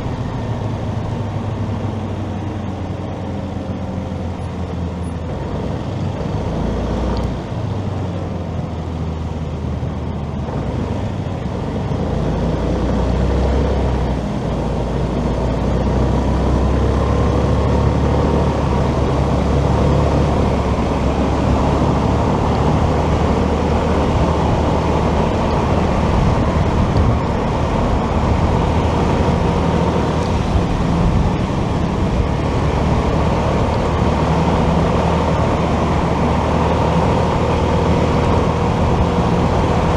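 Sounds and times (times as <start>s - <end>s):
motorcycle running: 0.0s - 39.9s
road and wind noise: 0.0s - 39.9s.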